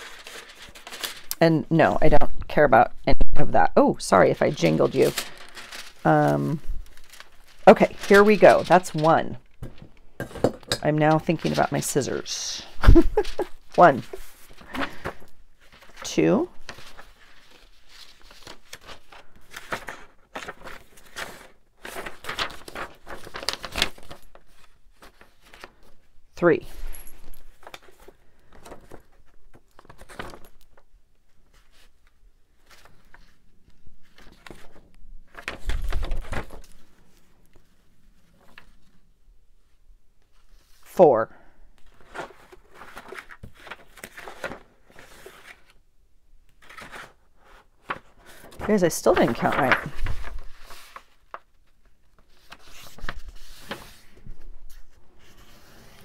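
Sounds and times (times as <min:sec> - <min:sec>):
paper rustling and shuffling: 0:00.0 - 0:02.8, 0:04.1 - 0:41.0, 0:41.8 - 0:45.8, 0:46.4 - 0:56.0.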